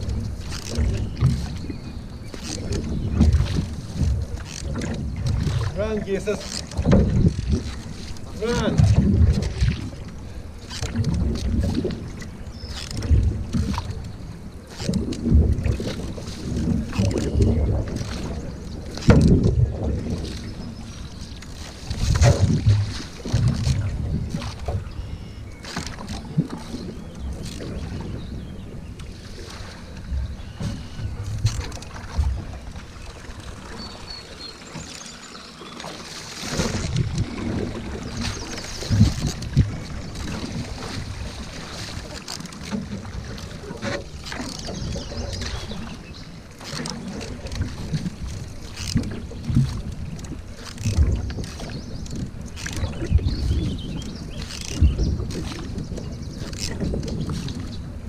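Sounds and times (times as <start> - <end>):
wind buffeting microphone: 0.0 - 34.0, 36.4 - 46.2, 46.8 - 58.0
paddle strokes splashing water: 0.0 - 58.0.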